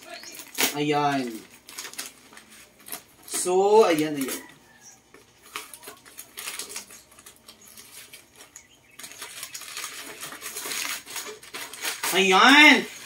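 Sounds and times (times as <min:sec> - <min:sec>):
wrapping paper crinkling and tearing: 0:00.0 - 0:13.0.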